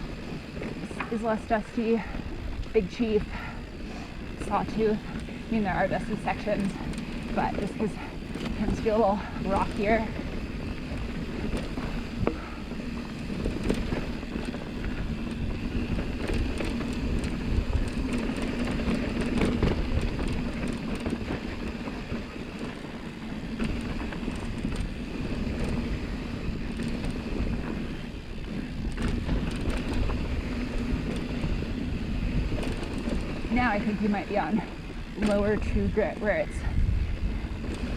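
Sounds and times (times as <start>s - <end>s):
bike tyres rumbling on dirt trail: 0.0s - 37.9s
rattles and clicks: 0.0s - 37.9s
wind on microphone: 0.0s - 37.9s.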